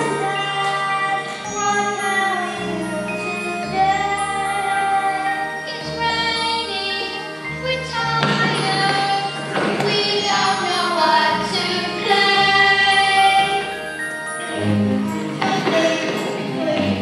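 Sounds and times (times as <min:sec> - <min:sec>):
sung melody: 0:00.0 - 0:17.0.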